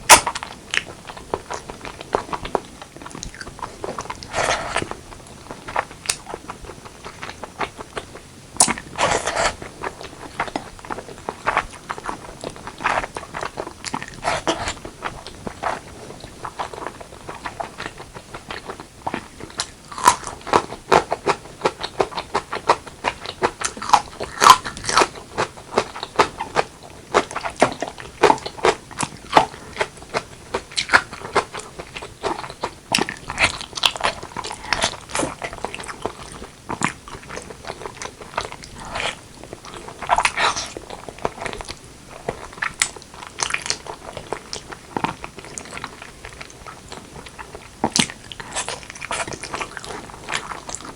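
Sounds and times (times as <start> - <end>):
close chewing and crunching: 0.0 - 50.9.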